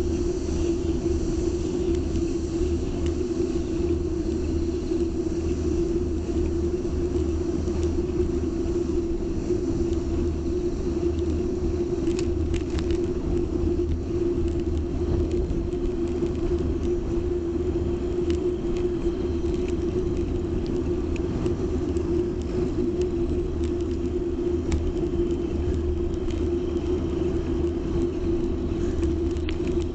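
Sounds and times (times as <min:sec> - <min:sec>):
constant rumble: 0:00.0 - 0:29.9
low hum: 0:00.0 - 0:29.9.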